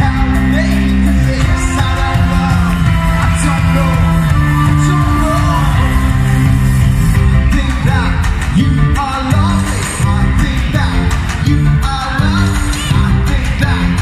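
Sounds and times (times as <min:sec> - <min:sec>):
live pop rock band: 0:00.0 - 0:14.0
man singing: 0:00.0 - 0:14.0.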